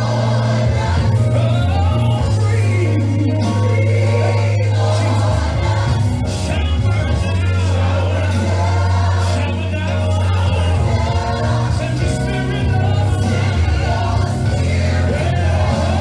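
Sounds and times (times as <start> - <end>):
choir singing gospel song: 0.0 - 16.0
deep bass: 0.0 - 16.0.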